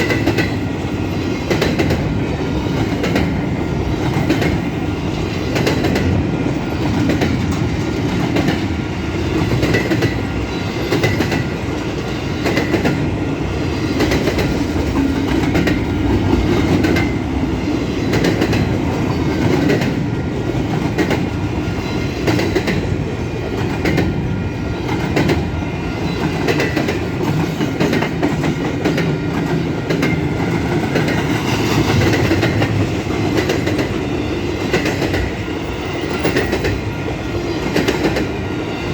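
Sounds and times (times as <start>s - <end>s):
train wheels rumbling on rail: 0.0s - 38.9s
wheels clickety-clack over rail joints: 0.0s - 38.9s.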